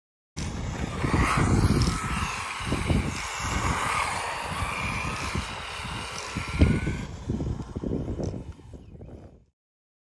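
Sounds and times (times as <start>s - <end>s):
rc car motor whining: 0.4s - 9.5s
wind rumbling on microphone: 0.4s - 9.6s.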